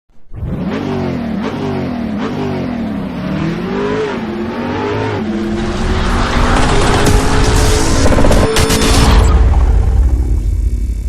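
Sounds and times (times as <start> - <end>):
car engine revving: 0.3 - 10.5.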